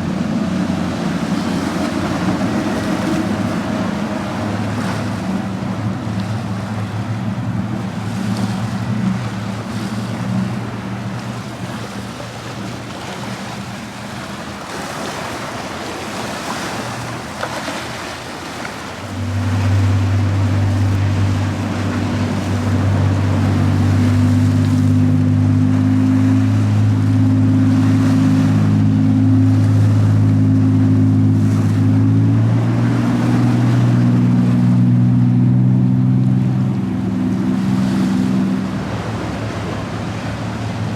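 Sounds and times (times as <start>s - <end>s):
boat engines running: 0.0s - 40.9s
deep engine drone: 0.0s - 40.9s
waves: 0.0s - 40.9s.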